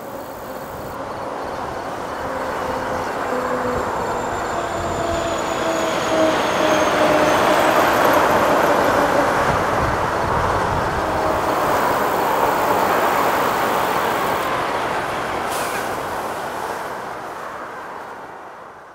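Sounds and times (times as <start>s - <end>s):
road traffic passing: 0.0s - 18.8s.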